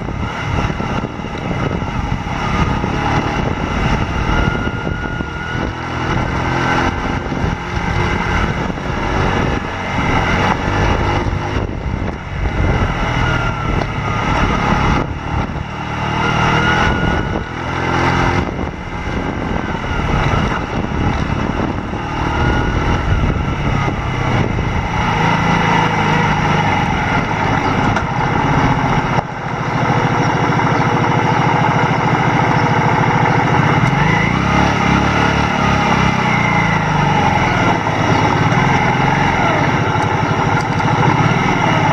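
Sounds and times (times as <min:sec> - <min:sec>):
motorcycle engine running: 0:00.0 - 0:41.9
steady rushing noise: 0:00.0 - 0:41.9.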